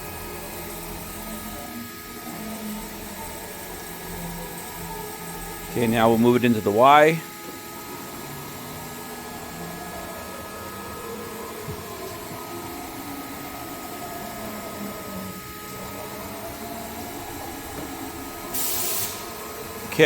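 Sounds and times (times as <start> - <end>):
machine hum with whining tones: 0.0 - 20.0.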